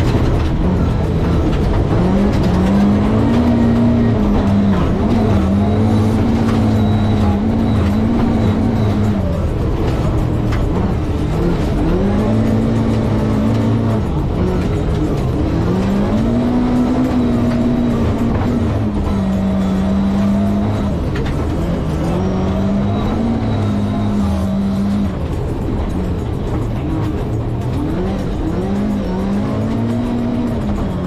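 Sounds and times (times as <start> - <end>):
rally car engine revving: 0.0 - 31.0
tyre and road noise: 0.0 - 31.0.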